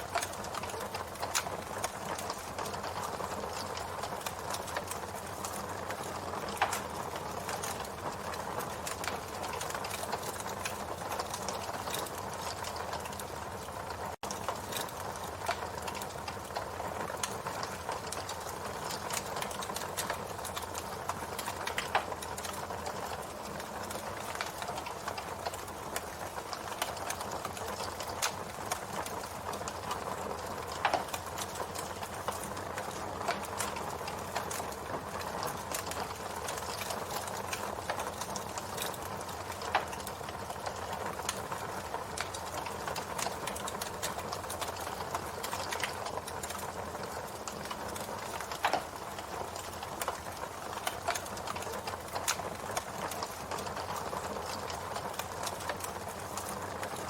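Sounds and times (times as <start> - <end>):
campfire crackling and hissing: 0.0 - 57.0
fire pops: 0.1 - 13.3, 14.3 - 41.5, 42.2 - 57.0.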